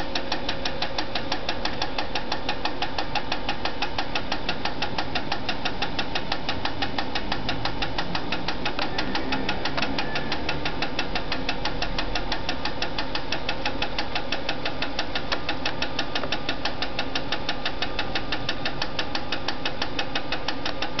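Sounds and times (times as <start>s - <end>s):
steady machine hum: 0.0s - 21.0s
watch-timing machine clicking: 0.0s - 21.0s.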